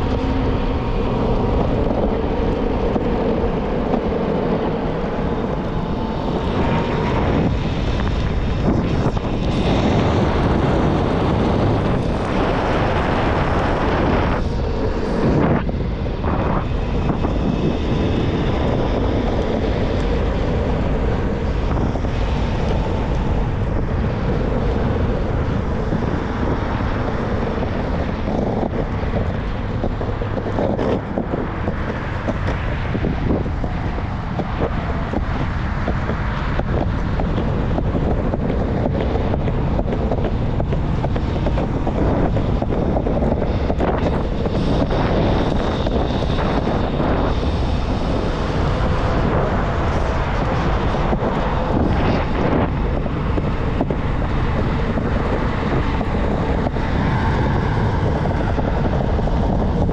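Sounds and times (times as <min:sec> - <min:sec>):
rumble of skateboard wheels: 0:00.0 - 0:59.9
traffic: 0:00.0 - 0:59.9
wind rushing over microphone: 0:00.0 - 0:59.9.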